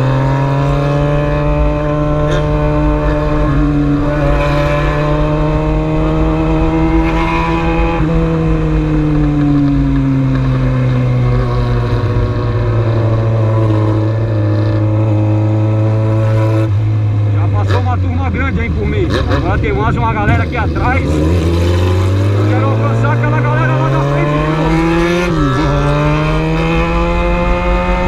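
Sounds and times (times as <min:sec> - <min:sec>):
wind rushing over microphone: 0:00.0 - 0:17.1, 0:18.2 - 0:28.0
motorcycle engine cruising: 0:00.0 - 0:28.0.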